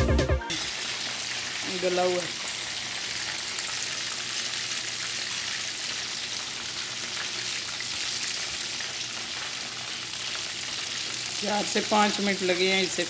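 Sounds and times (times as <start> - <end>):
chicken sizzling in hot oil: 0.5 - 13.0.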